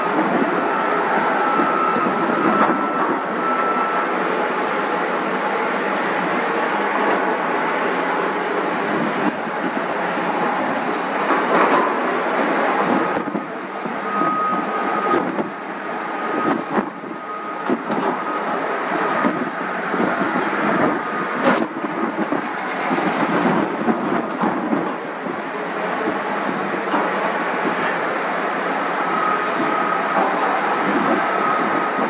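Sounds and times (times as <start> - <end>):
jet engine roaring: 0.0 - 32.0
thin jet engine whine: 0.0 - 32.0.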